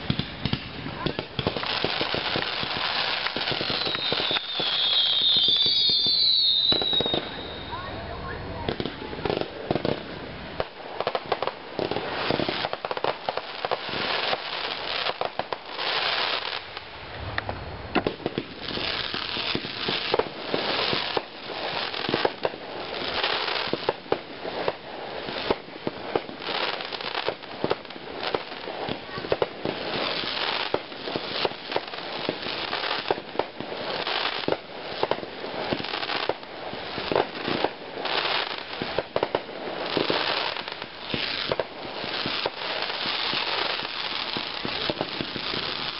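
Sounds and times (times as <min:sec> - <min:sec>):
fireworks crackling: 0:00.0 - 0:45.9
fireworks exploding: 0:00.0 - 0:45.9.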